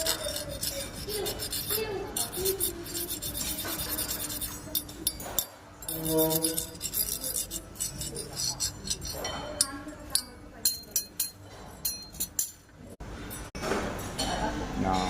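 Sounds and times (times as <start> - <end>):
hard objects clinking and scraping: 0.0 - 12.6.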